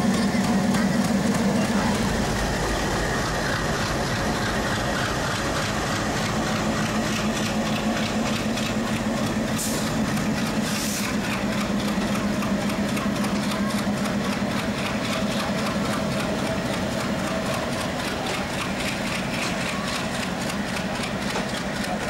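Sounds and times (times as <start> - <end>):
rail noise: 0.0 - 22.0
train engine humming: 0.0 - 22.0.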